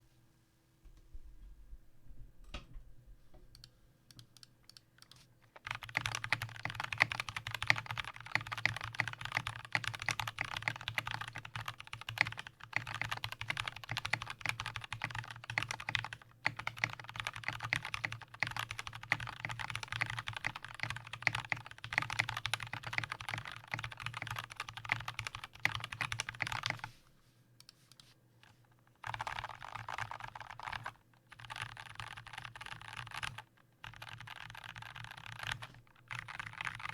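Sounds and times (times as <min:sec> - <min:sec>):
typing on mechanical keyboard: 0:03.6 - 0:26.9, 0:29.0 - 0:36.9.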